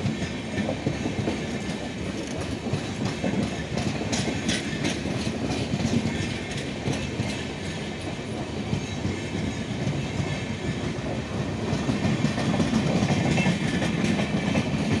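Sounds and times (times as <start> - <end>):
train wheels rumbling and clattering: 0.0 - 15.0.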